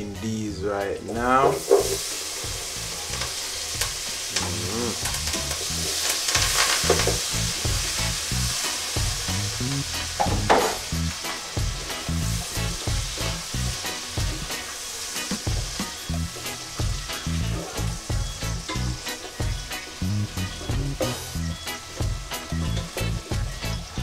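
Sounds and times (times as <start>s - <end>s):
vegetables sizzling in butter: 0.0s - 24.0s.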